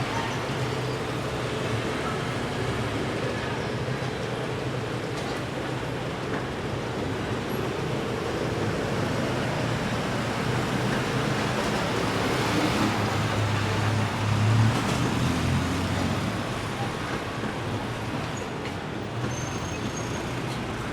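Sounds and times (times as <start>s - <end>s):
road traffic: 0.0s - 20.9s.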